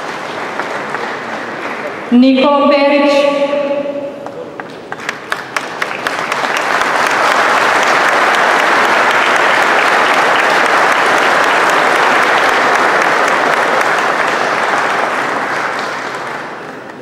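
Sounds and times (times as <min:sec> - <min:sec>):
audience applauding: 0:00.0 - 0:02.1, 0:04.5 - 0:17.0.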